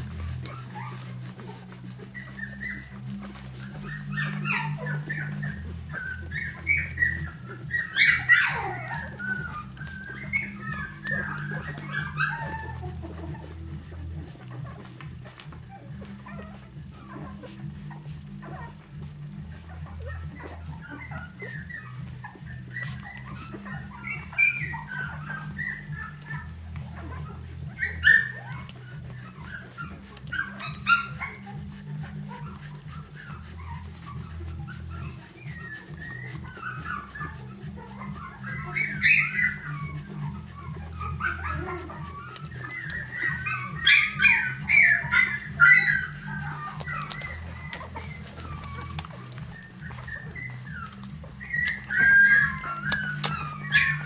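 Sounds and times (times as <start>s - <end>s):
puppies squeaking and whimpering: 0.0s - 54.0s.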